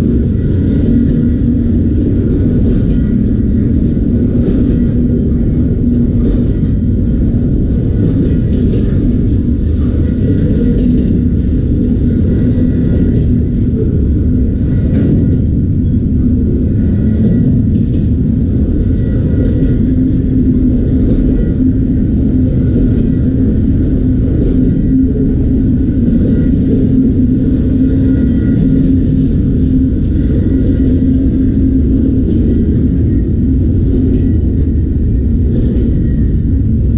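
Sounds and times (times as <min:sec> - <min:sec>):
steel wheels rumbling on rails: 0:00.0 - 0:36.9.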